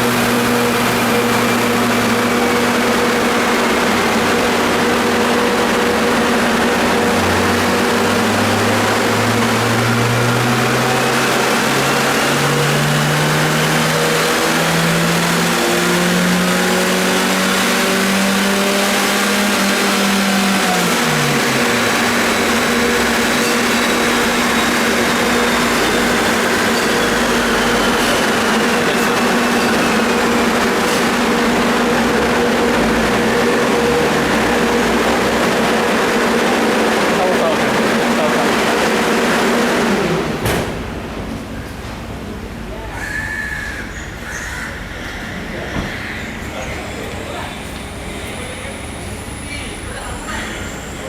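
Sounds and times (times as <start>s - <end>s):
loud steady drone: 0.0s - 41.5s
car engine revving under load: 0.0s - 42.6s.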